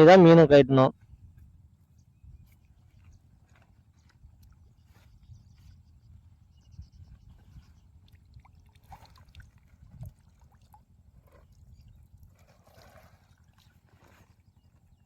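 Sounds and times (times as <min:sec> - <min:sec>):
water sloshing and trickling: 0:01.3 - 0:15.0.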